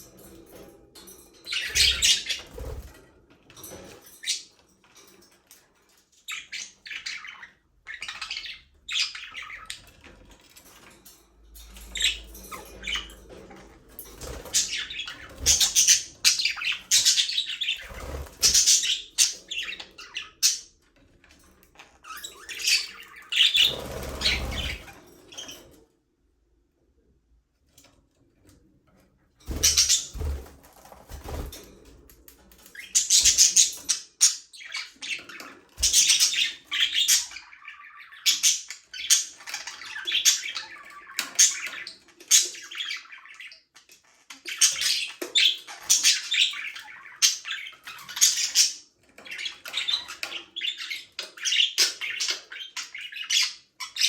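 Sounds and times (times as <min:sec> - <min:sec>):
budgerigars chirping and squawking: 0:01.3 - 0:03.0, 0:06.2 - 0:10.9, 0:11.6 - 0:25.8, 0:29.5 - 0:54.0.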